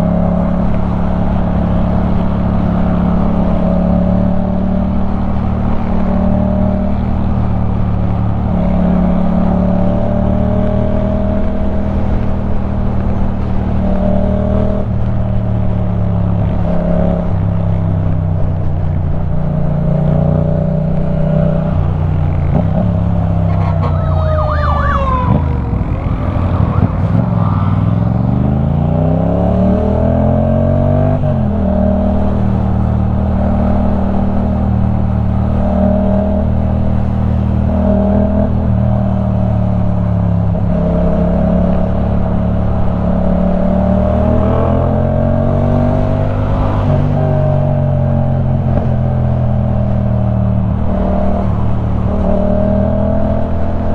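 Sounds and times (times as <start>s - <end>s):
motorcycle engine riding: 0.0s - 53.9s.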